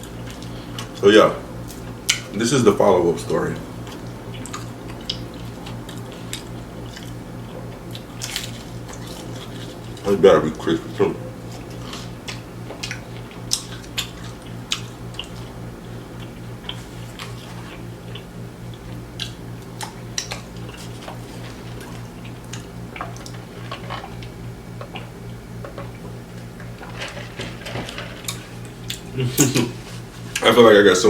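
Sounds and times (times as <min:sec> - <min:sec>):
chewing crispy food: 0:00.0 - 0:30.6
steady low hum: 0:00.0 - 0:31.0.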